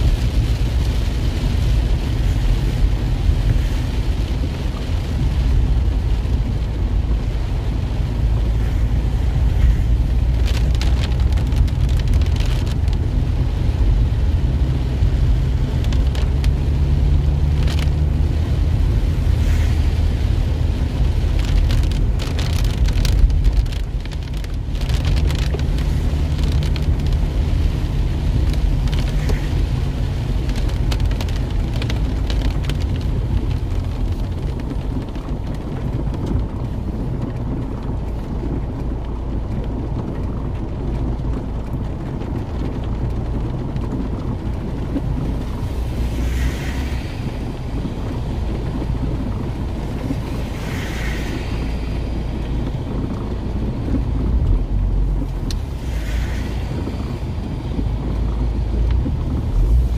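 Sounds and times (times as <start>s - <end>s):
car engine and tyres rumbling: 0.0s - 59.9s
rain spattering on car: 0.0s - 59.9s.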